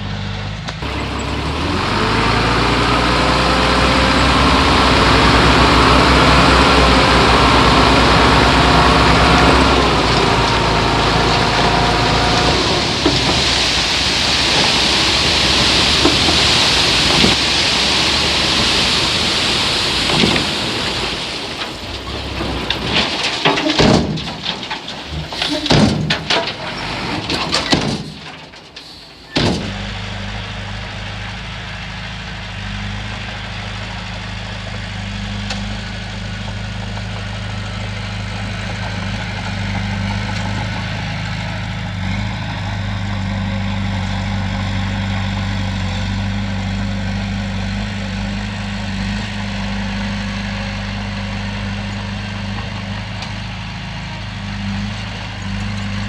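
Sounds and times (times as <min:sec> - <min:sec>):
diesel engine running at low revs: 0:00.0 - 0:56.0.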